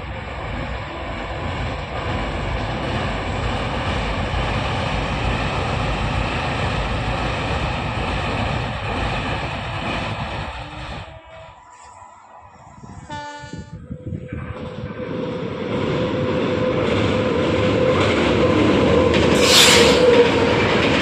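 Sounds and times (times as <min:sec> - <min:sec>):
train wheels rumbling on bridge: 0:00.0 - 0:11.7, 0:12.7 - 0:21.0.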